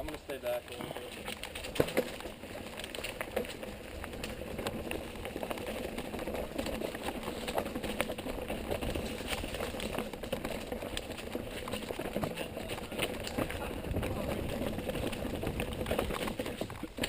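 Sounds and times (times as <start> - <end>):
tyres rolling over dirt and rocks: 0.0 - 17.0
bike chain rattling: 0.1 - 17.0.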